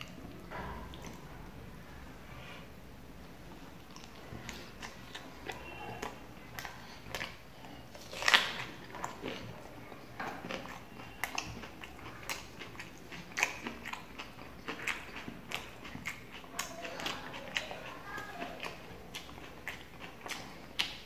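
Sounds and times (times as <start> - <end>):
person chewing food: 0.0 - 1.5, 3.5 - 21.0.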